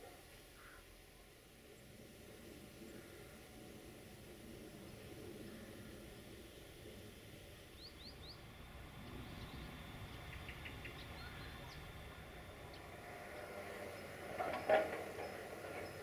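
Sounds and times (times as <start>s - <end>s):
faint outdoor rumble: 0.0s - 16.0s.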